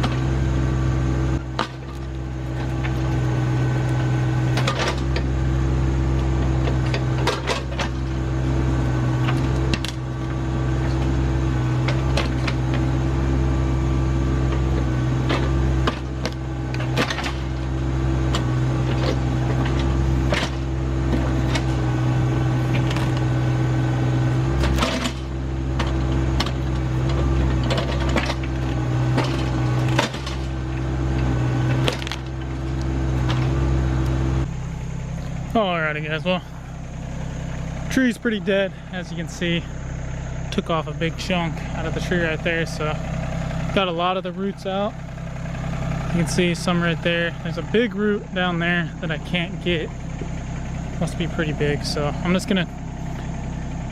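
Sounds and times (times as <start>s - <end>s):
backhoe knocking and clanking: 0.0s - 53.9s
tractor diesel engine running: 0.0s - 53.9s.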